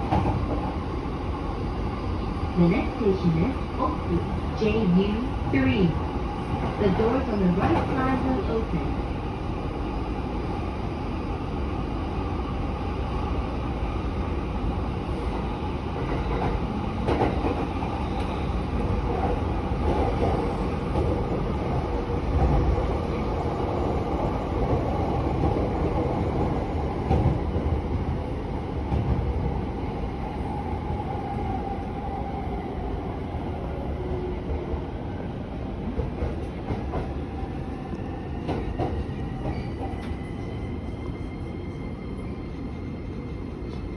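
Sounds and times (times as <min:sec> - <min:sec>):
train wheels rumbling on rail: 0:00.0 - 0:11.2, 0:12.5 - 0:43.9.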